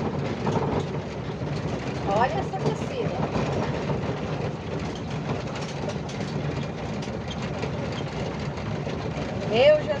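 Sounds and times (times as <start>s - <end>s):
van engine and road rumble: 0.0s - 10.0s.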